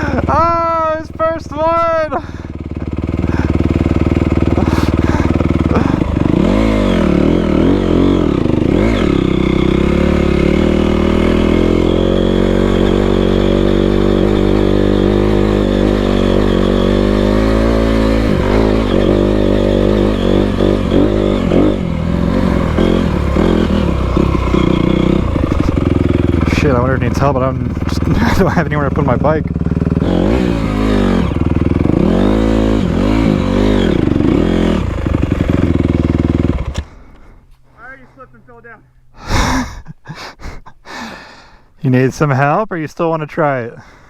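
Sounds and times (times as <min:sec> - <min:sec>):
dirt bike engine revving: 0:00.0 - 0:37.4.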